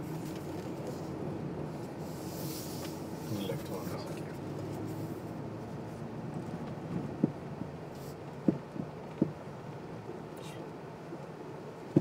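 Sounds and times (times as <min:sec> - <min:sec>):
car engine drone inside cabin: 0:00.0 - 0:12.0.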